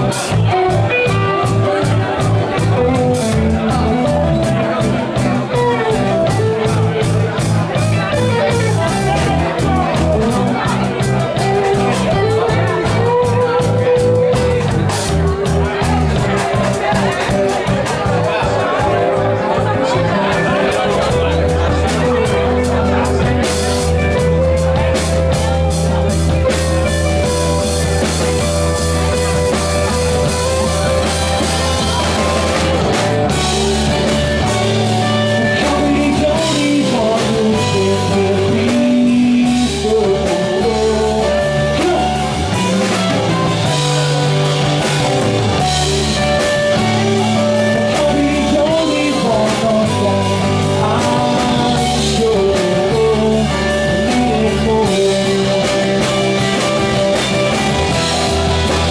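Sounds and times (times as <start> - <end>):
acoustic guitar: 0.0 - 58.9
drum kit: 0.0 - 58.9
electric guitar: 0.0 - 58.9
male lead singer: 0.0 - 58.9.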